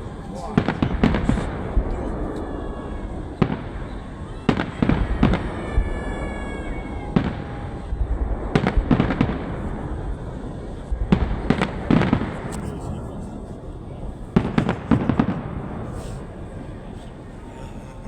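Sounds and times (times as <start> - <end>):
low rumble of explosions: 0.0 - 18.0.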